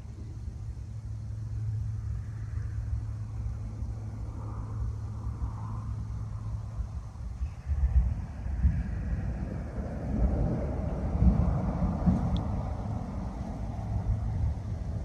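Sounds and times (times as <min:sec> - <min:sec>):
low hum: 0:00.0 - 0:15.0
low outdoor rumble: 0:00.0 - 0:15.0.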